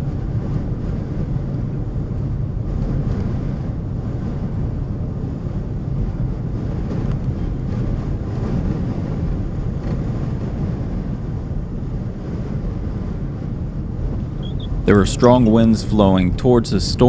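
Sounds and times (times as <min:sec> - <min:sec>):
strong wind buffeting: 0:00.0 - 0:17.0.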